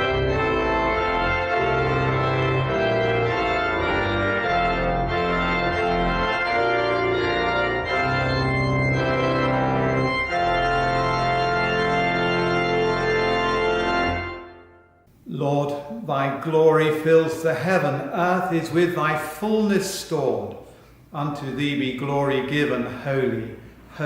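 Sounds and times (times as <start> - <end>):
church organ chords: 0.0 - 24.0.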